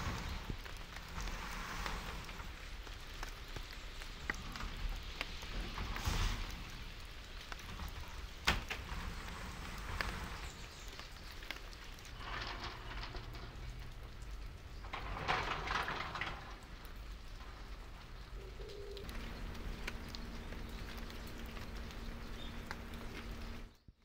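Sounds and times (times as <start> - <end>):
rain pattering: 0.0 - 24.0.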